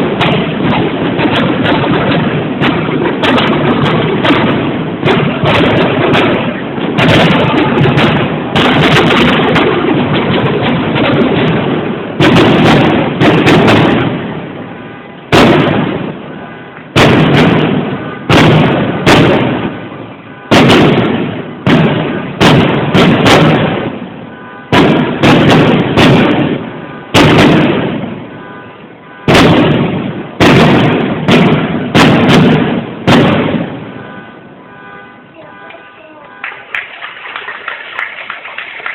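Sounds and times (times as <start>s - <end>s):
fireworks booming with echo: 0.0s - 38.9s.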